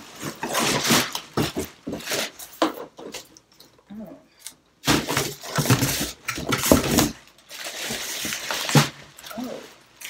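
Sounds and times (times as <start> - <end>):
plastic wrapping rustling: 0.0 - 3.3, 4.8 - 10.0.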